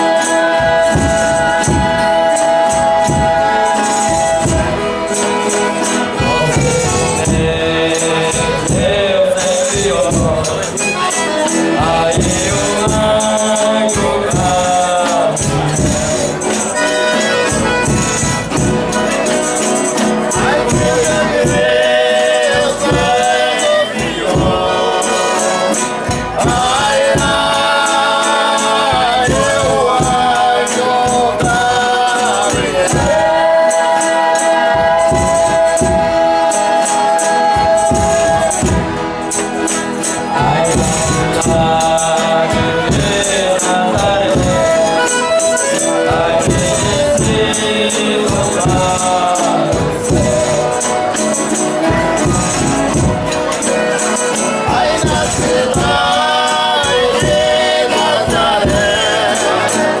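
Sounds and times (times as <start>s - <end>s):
group singing in several voices: 0.0s - 60.0s
tambourine jingles and percussion: 0.0s - 60.0s.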